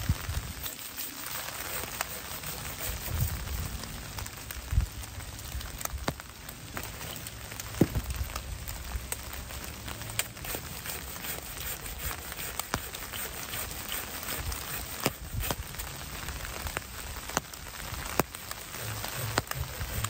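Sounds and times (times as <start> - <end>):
rain on wet leaves: 0.0 - 20.0.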